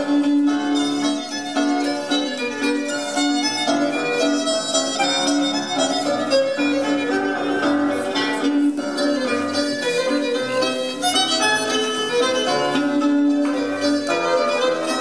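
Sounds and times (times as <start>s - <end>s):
fiddle dance music: 0.0s - 15.0s.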